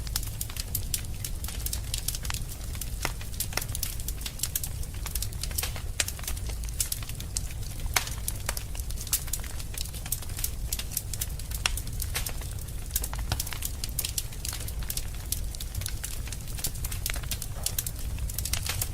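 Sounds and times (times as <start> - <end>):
fire crackling and popping: 0.0 - 18.9
low rumble of fire: 0.0 - 18.9.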